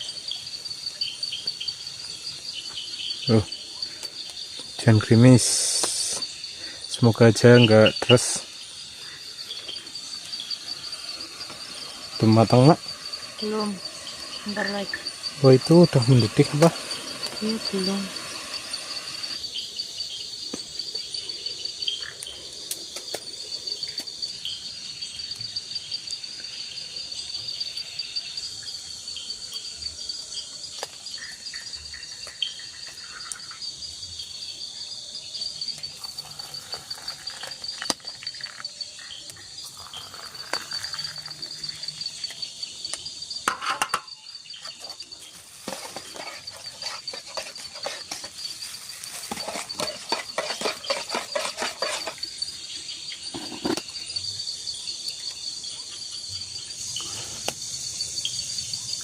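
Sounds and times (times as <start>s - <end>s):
night insects trilling: 0.0s - 59.0s.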